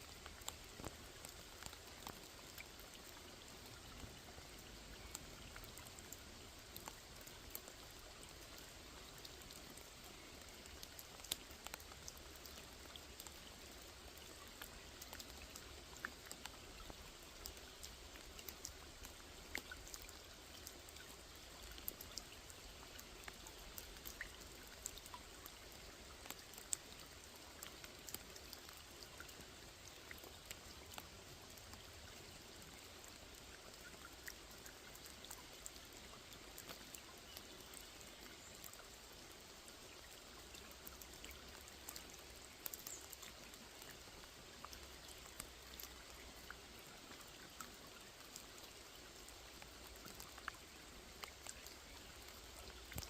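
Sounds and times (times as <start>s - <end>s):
rain hissing on water: 0.0s - 53.0s.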